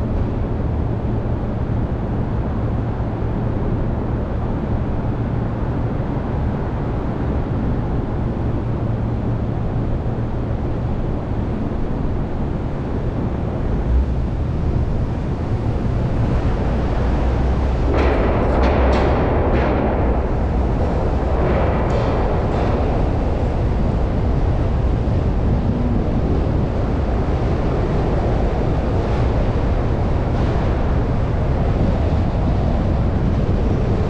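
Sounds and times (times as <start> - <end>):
rushing noise of moving car: 0.0 - 34.0.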